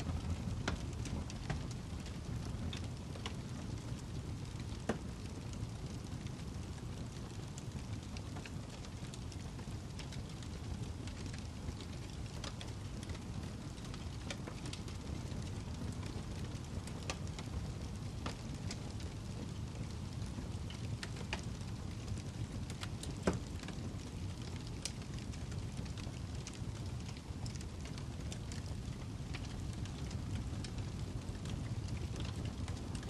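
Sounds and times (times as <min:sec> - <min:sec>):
fire crackling and popping: 0:00.0 - 0:33.0
low rumble of flame: 0:00.0 - 0:33.0.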